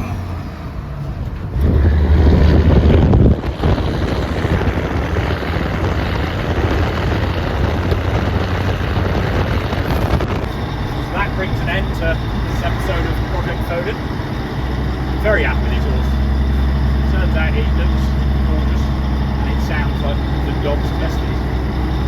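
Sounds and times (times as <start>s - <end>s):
lorry diesel engine droning: 0.0s - 22.0s
wind noise on microphone: 0.7s - 22.0s.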